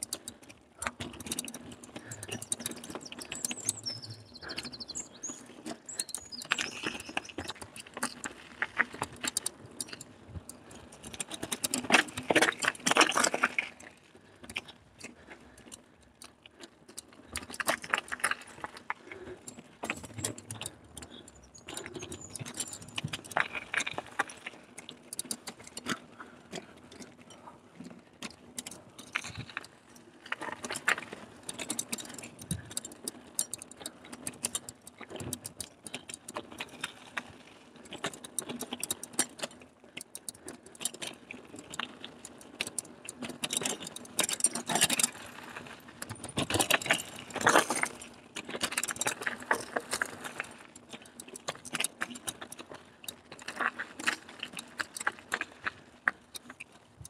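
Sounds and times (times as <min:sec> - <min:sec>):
mountain bike rattling: 0:00.0 - 0:57.0.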